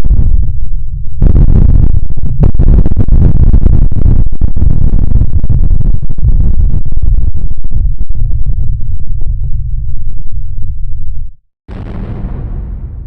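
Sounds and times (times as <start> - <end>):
distant explosion rumble: 0.0 - 10.8, 11.7 - 13.0.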